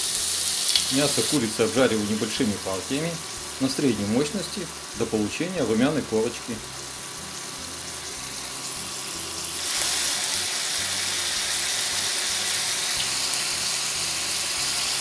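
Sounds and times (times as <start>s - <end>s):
chicken sizzling in frying pan: 0.0s - 15.0s.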